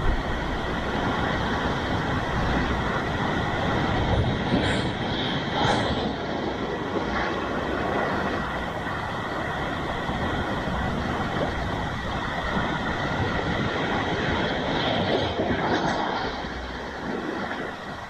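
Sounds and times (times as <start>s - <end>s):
sea waves washing over rocks: 0.0s - 18.0s.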